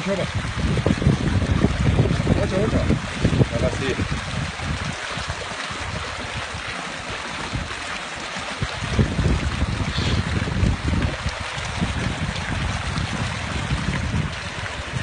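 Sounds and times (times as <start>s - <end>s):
stream rushing over stones: 0.0s - 15.0s
wind rumble on microphone: 0.0s - 15.0s.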